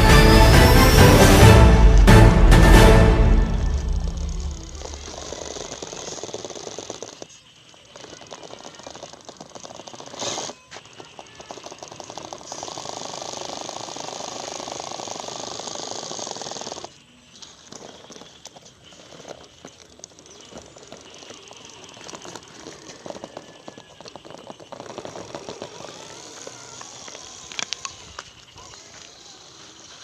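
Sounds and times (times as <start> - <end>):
rc car motor whirring: 3.9 - 30.0.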